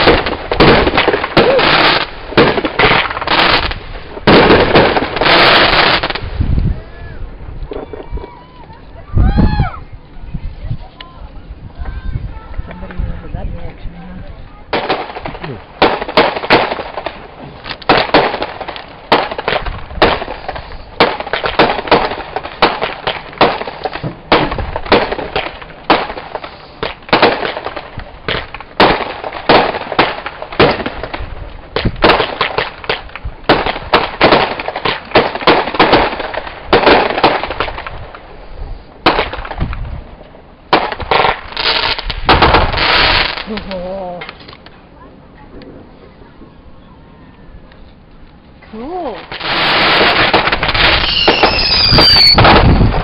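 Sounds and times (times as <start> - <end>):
fireworks cracking and popping: 0.0 - 8.9, 14.5 - 44.9, 47.7 - 53.0.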